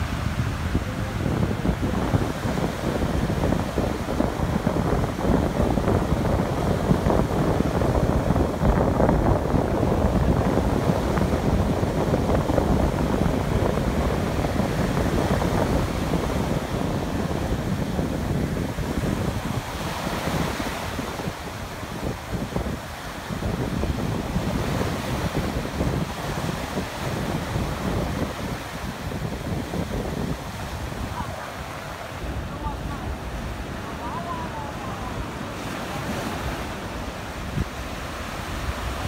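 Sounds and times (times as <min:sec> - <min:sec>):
ocean surf breaking on beach: 0:00.0 - 0:39.0
wind buffeting microphone: 0:00.0 - 0:39.0.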